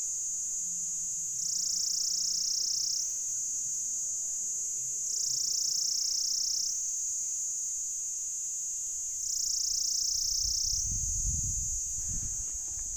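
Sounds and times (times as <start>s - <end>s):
cicada shrill buzz: 0.0s - 4.0s, 5.0s - 12.9s.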